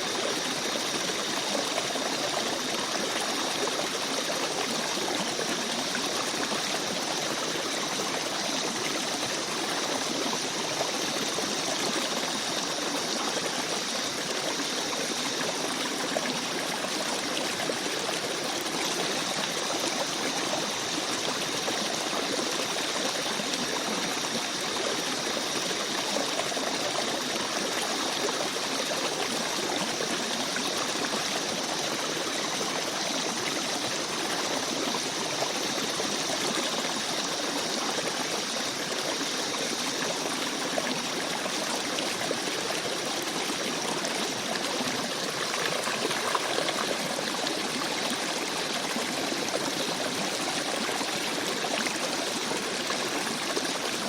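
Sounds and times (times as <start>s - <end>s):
brook water running: 0.0s - 54.0s.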